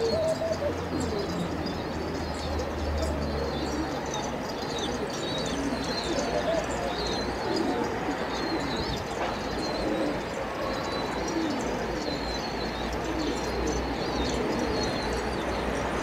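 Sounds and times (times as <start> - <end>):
pigeons cooing: 0.0 - 16.0
small birds chirping: 0.0 - 16.0.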